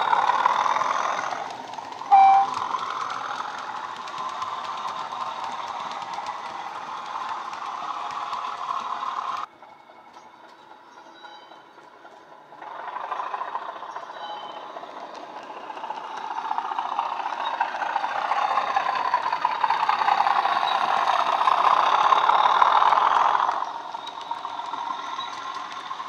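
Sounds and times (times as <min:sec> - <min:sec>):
model train diesel engine sound: 0:00.0 - 0:26.0
model train rattling on track: 0:00.0 - 0:26.0.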